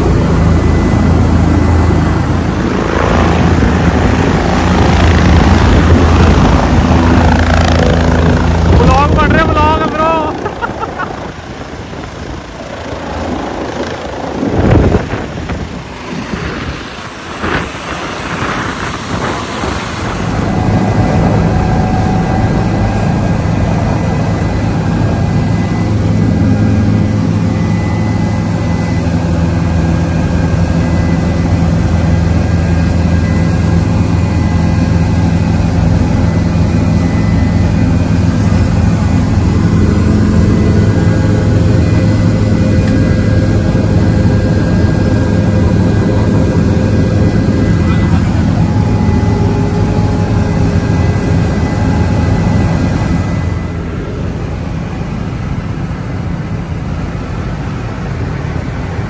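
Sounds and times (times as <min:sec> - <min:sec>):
faint high whine: 0:00.0 - 0:59.0
helicopter cabin drone: 0:00.0 - 0:59.0.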